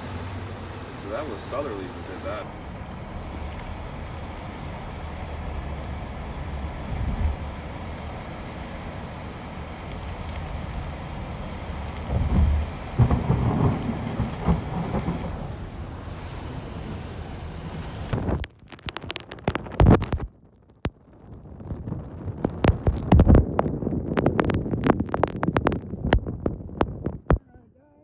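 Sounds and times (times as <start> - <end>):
wind gusts buffeting microphone: 0.0 - 18.5, 19.2 - 27.5
wind and heavy rain rushing: 0.0 - 27.5.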